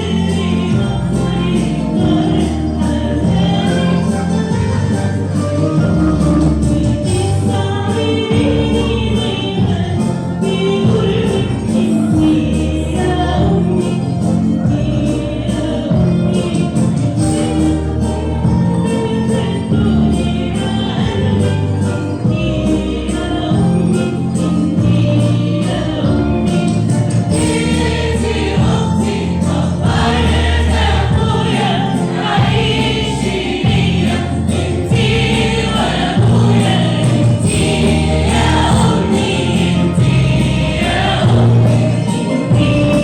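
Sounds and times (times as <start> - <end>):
hymn bass line: 0.0 - 43.0.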